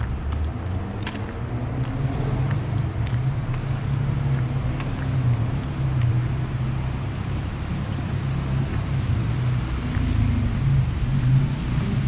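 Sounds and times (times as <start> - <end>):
footsteps on wet pavement: 0.0 - 12.0
low rumble of traffic: 0.0 - 12.0.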